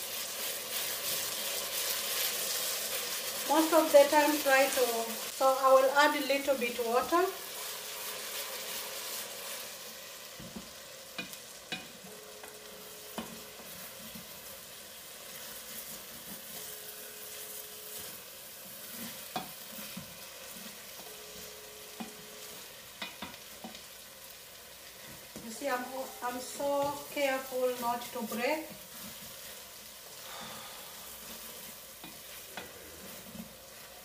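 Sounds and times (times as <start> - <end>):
food sizzling in hot oil: 0.0 - 34.0
wooden spoon stirring in a pot: 0.0 - 34.0.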